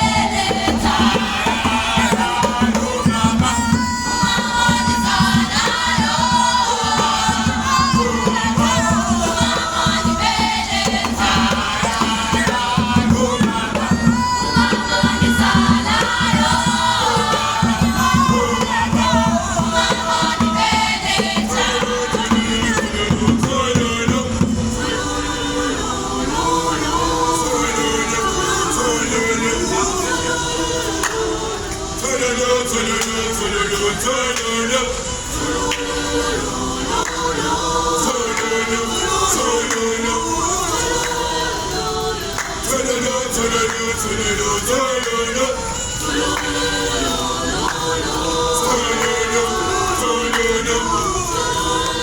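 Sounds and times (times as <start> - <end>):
children's choir singing: 0.0 - 52.0.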